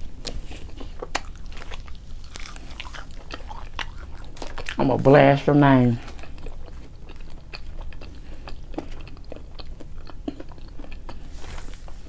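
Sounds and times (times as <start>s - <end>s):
chewing with mouth clicks and smacks: 0.0s - 4.9s, 6.0s - 12.0s
low steady hum: 0.0s - 12.0s.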